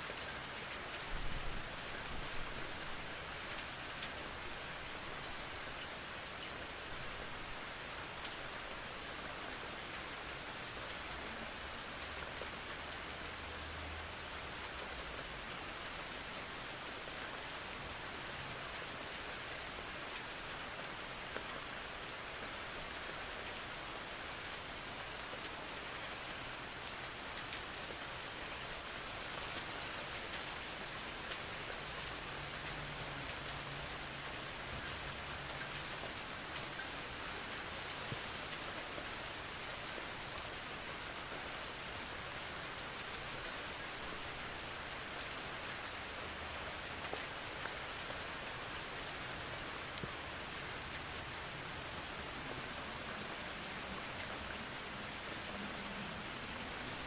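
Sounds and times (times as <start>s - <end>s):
rain pattering on surfaces: 0.0s - 57.0s
sharp raindrop ticks: 0.0s - 57.0s.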